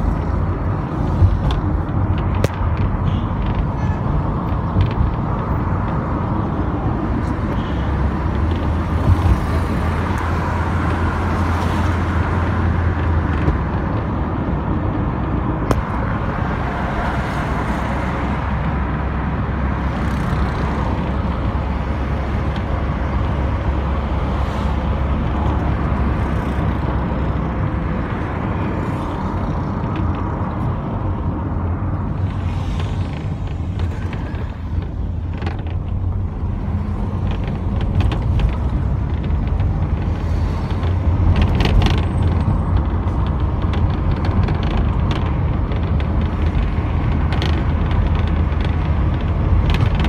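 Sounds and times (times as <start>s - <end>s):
car engine and tyre hum: 0.0s - 50.0s.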